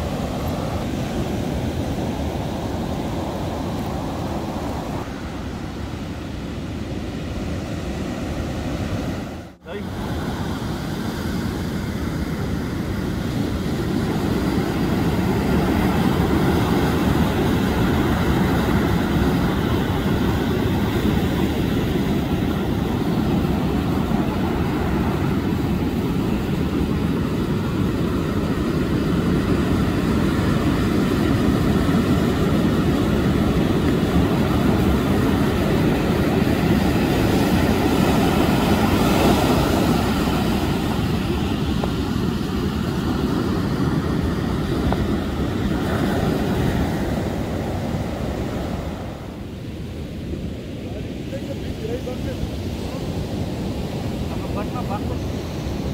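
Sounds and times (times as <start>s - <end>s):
surf breaking on sandy beach: 0.0s - 55.9s
wind on microphone: 0.0s - 55.9s.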